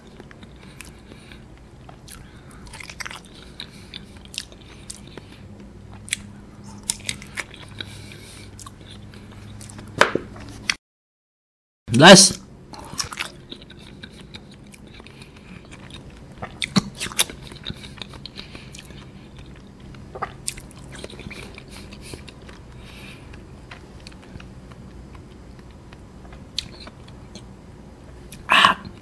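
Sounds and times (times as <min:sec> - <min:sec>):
person chewing jelly: 0:00.0 - 0:10.8, 0:12.7 - 0:29.0.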